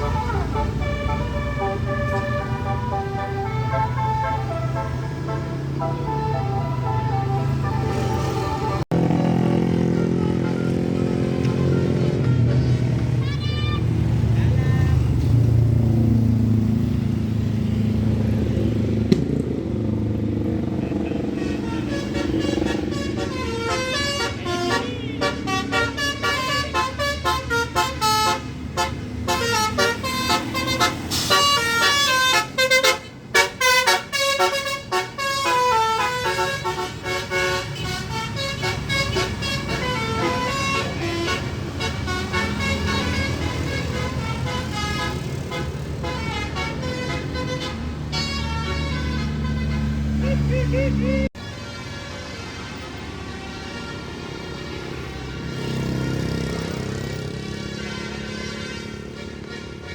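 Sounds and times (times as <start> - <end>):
bus air horn playing melody: 0.0 - 15.3, 21.1 - 59.9
bus engine running: 0.0 - 59.9.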